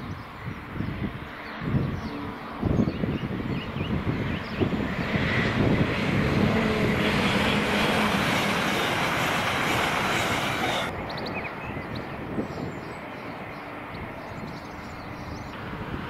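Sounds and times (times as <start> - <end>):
birds chirping: 0.0 - 15.6
distant train rumble: 0.3 - 16.0
train passing at speed: 2.1 - 16.0.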